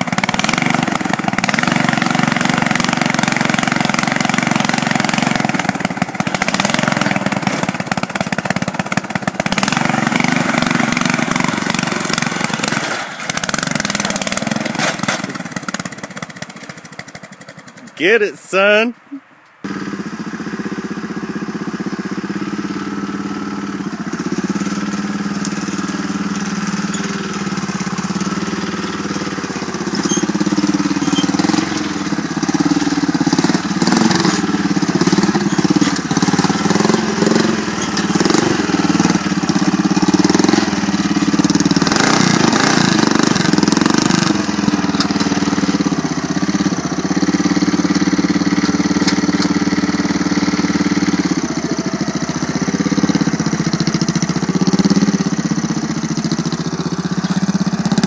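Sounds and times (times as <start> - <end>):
lawn tractor engine under load: 0.0 - 19.0, 19.6 - 58.0.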